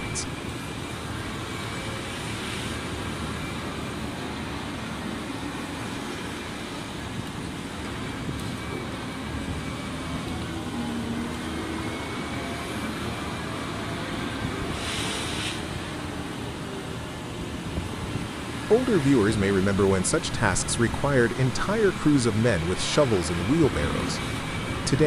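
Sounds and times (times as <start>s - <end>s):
diesel excavators droning: 0.0s - 25.0s.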